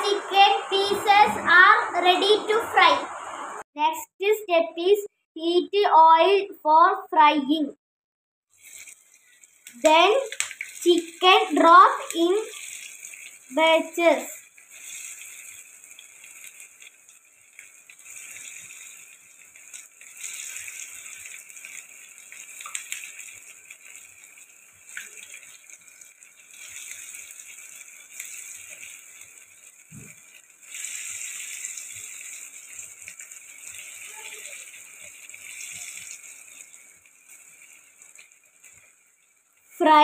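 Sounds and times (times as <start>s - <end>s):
chicken deep-frying in oil: 0.0s - 1.3s, 8.5s - 40.0s.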